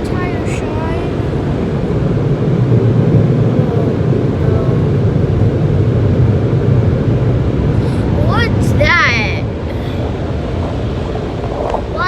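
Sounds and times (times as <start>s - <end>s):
car wash machinery rumble: 0.0s - 12.0s.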